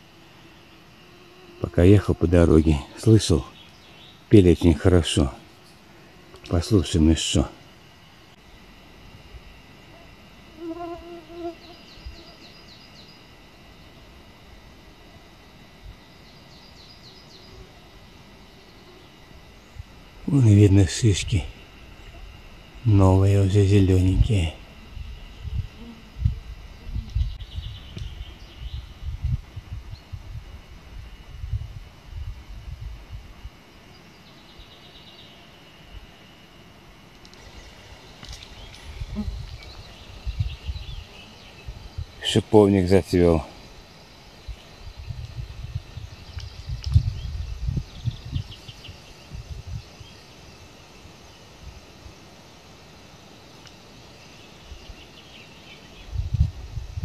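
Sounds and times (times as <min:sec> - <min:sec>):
songbird singing: 0:00.0 - 0:31.6, 0:32.7 - 0:57.0
insect buzzing: 0:00.0 - 0:57.0.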